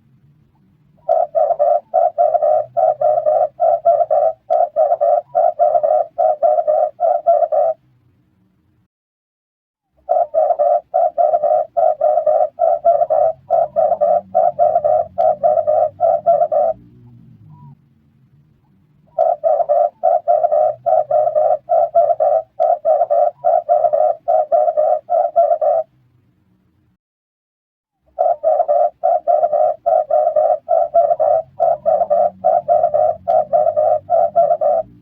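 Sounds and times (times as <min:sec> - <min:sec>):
dove cooing: 0:01.0 - 0:07.8, 0:10.0 - 0:17.8, 0:19.1 - 0:25.9, 0:28.1 - 0:35.0.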